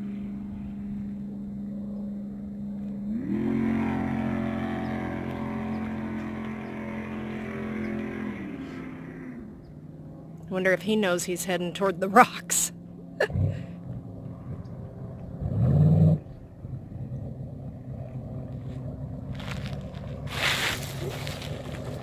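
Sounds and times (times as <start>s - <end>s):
boat engine running and revving: 0.0s - 22.0s.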